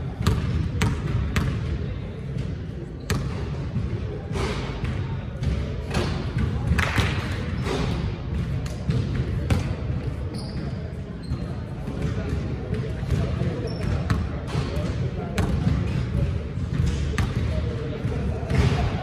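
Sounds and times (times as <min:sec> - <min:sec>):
low rumble of gym noise: 0:00.0 - 0:19.0
basketball bouncing on court: 0:00.1 - 0:19.0.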